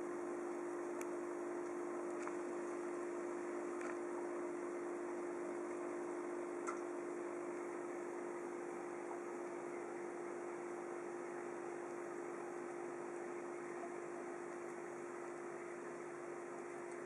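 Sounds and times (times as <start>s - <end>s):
aquarium equipment humming: 0.0s - 17.0s.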